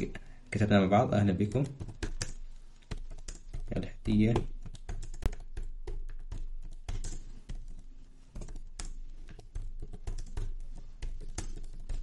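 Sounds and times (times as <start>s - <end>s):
keyboard typing: 1.2s - 12.0s.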